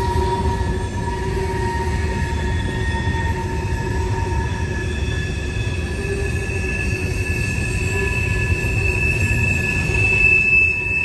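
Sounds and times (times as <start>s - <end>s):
train rumble: 0.0s - 11.0s
wheel flanges squealing: 0.0s - 11.0s.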